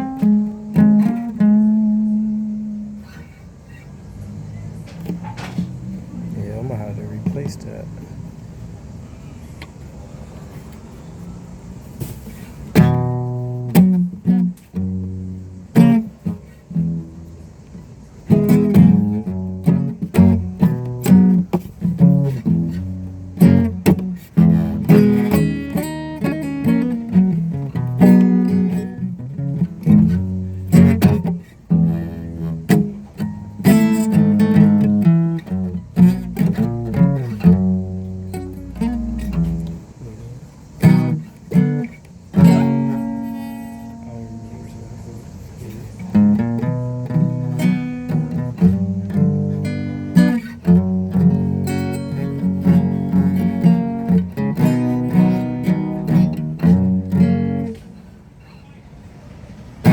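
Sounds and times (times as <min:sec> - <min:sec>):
guitar being plucked: 0:00.0 - 0:03.9, 0:05.0 - 0:06.0, 0:12.3 - 0:58.4
low steady noise: 0:00.0 - 0:59.9.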